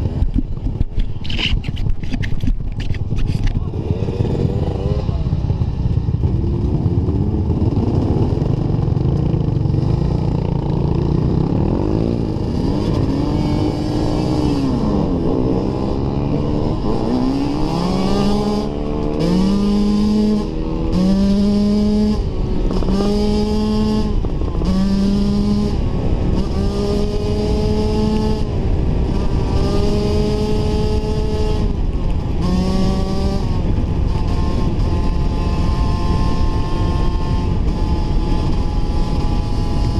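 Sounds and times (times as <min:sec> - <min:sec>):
dirt bike engine revving: 0:03.2 - 0:05.6, 0:06.2 - 0:39.9.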